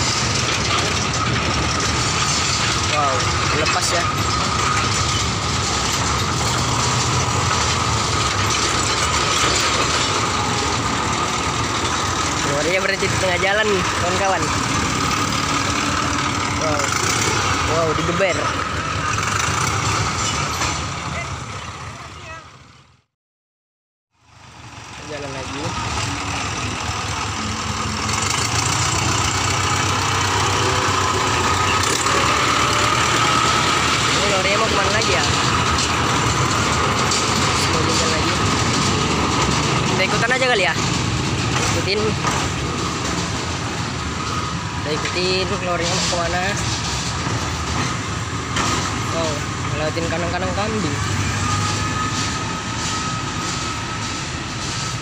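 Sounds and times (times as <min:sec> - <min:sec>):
wagons rattling over rails: 0:00.0 - 0:22.8, 0:24.4 - 0:55.0
diesel locomotive running: 0:00.0 - 0:23.1, 0:24.2 - 0:55.0.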